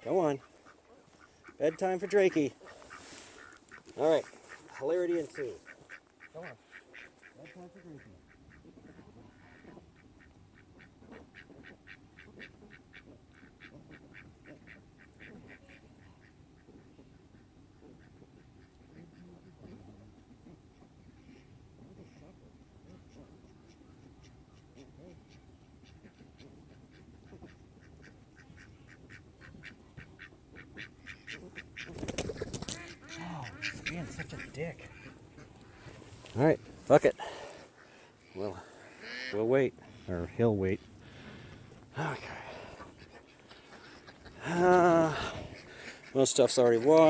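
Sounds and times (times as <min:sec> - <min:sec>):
ducks quacking softly: 0:00.0 - 0:47.0.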